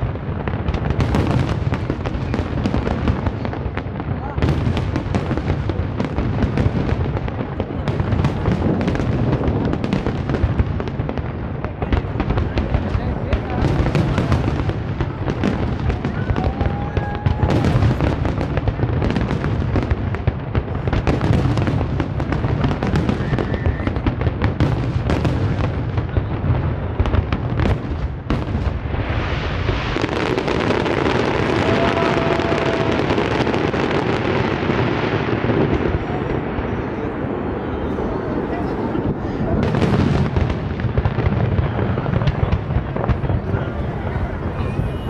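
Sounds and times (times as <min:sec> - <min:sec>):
firework crackling: 0:00.0 - 0:45.0.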